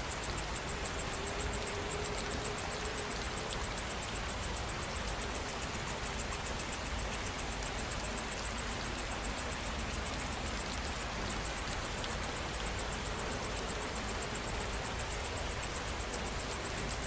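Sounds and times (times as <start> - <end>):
insect chirping: 0.0 - 17.0
steady rain: 0.0 - 17.0.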